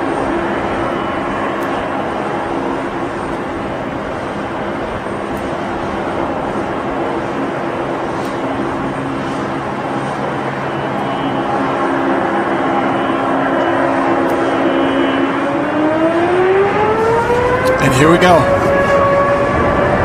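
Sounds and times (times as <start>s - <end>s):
aircraft engines running: 0.0s - 20.0s
deeper hum: 0.0s - 20.0s.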